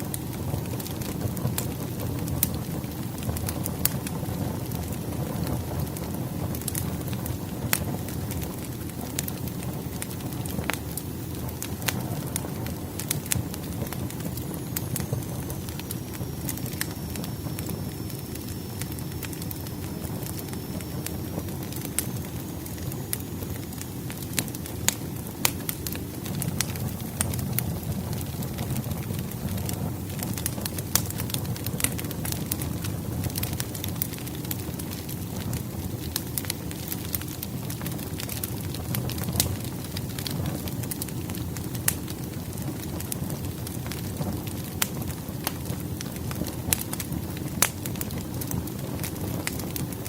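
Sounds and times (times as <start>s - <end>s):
fire rumbling: 0.0s - 50.0s
firewood crackling and popping: 0.0s - 50.0s.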